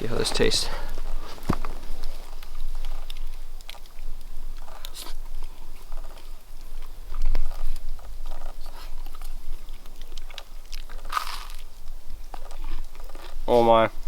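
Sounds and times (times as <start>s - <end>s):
person chewing and crunching food: 0.9s - 13.6s.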